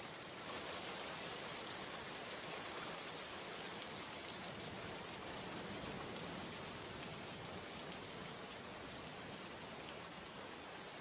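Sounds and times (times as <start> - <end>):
rain-like hiss: 0.0 - 11.0.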